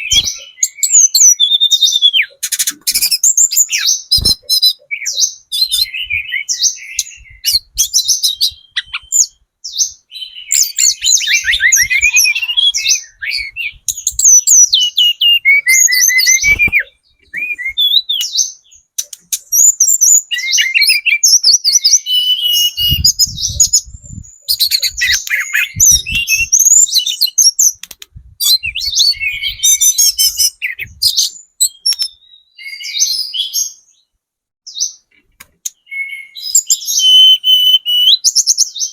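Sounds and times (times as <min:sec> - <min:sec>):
bird twittering and trilling: 0:00.0 - 0:34.1, 0:34.7 - 0:38.9.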